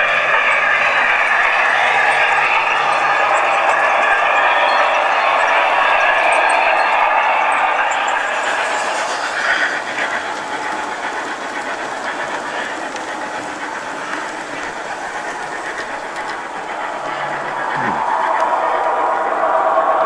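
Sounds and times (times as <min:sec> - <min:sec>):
model train wheels whirring: 0:00.0 - 0:20.0.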